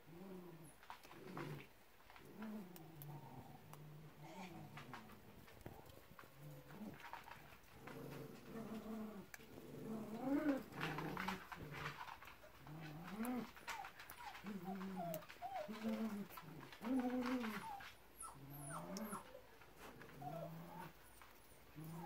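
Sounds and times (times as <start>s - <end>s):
puppy whining: 2.3s - 22.0s.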